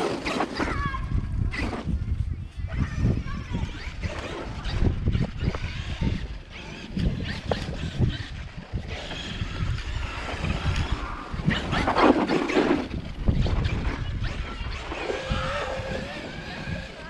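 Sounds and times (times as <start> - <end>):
electric rc truck whirring: 0.0 - 17.0
wind buffeting microphone: 0.0 - 17.0.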